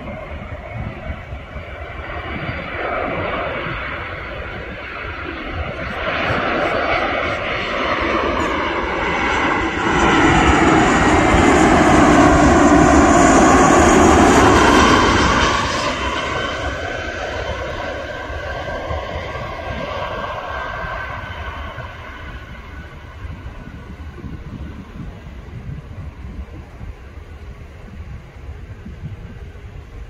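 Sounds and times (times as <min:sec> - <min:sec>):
jet airliner passing: 0:00.0 - 0:30.0.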